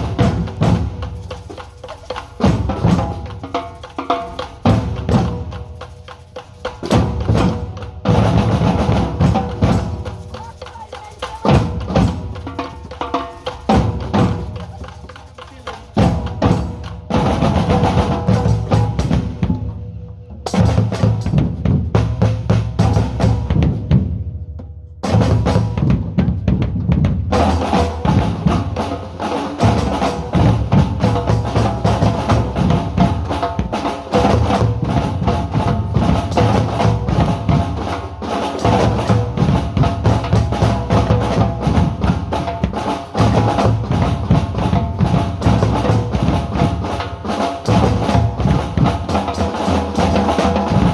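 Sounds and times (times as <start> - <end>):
drum ensemble playing: 0.0 - 50.9.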